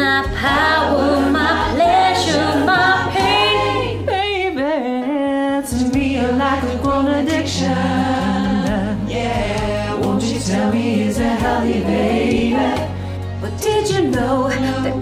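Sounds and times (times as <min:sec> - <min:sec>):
choir singing in harmony: 0:00.0 - 0:04.2, 0:05.7 - 0:15.0.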